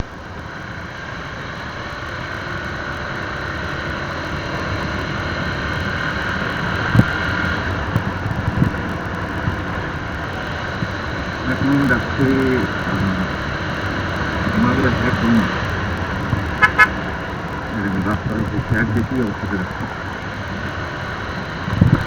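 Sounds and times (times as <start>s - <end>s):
motorcycle engine and road noise: 0.0s - 22.0s.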